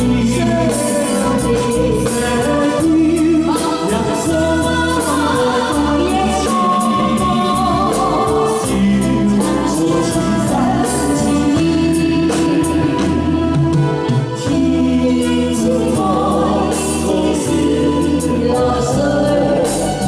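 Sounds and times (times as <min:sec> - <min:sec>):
live band with steady beat: 0:00.0 - 0:20.0
woman and man singing duet: 0:00.0 - 0:20.0.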